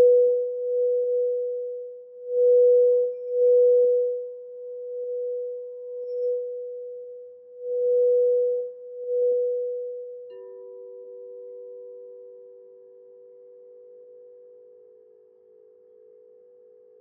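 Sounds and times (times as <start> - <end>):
lower-pitched singing bowl ringing: 0.0 - 17.0
singing bowl pure tone: 0.0 - 17.0.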